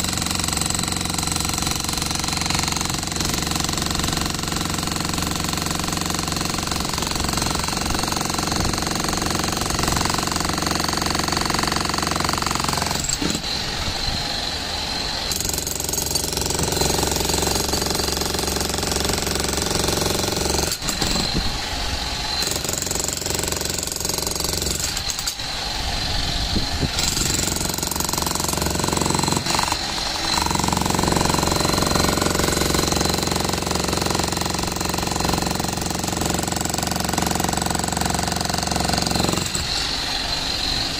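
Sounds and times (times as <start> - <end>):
demolition hammer chiselling concrete: 0.0 - 13.6, 15.3 - 21.5, 22.3 - 25.4, 26.9 - 40.0.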